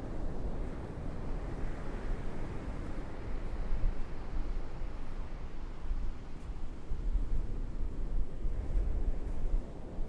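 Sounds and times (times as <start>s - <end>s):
wind buffeting the microphone: 0.0s - 10.0s.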